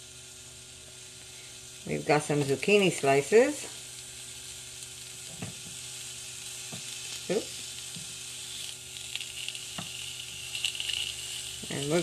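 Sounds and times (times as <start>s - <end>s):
vegetables sizzling on grill: 0.0s - 12.0s.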